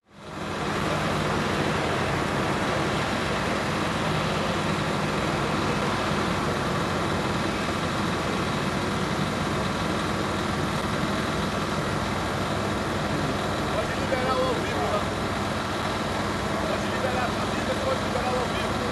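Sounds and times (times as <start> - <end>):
engine hiss and low hum: 0.0 - 18.9.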